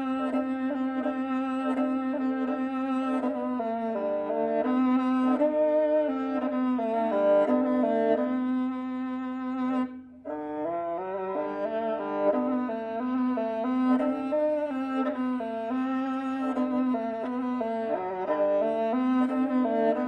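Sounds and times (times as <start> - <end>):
bowed fiddle melody over drone: 0.0 - 20.0.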